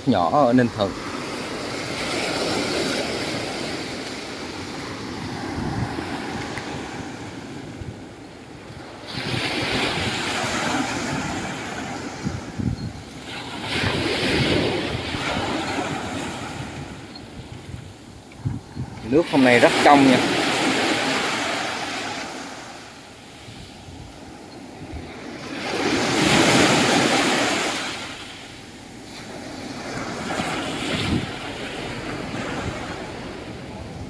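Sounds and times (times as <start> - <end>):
small waves breaking on beach: 0.0 - 34.0.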